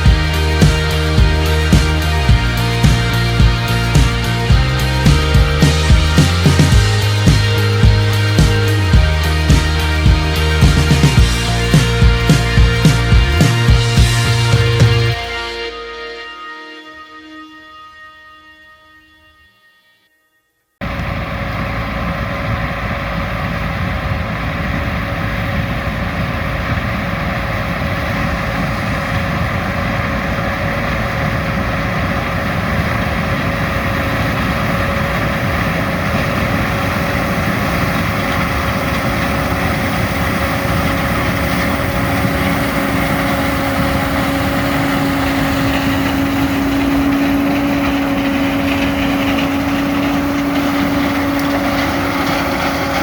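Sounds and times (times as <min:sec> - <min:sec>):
farm machinery engine whining: 0:00.0 - 0:17.9, 0:20.8 - 0:53.0
lower whine: 0:00.0 - 0:19.7, 0:20.8 - 0:53.0.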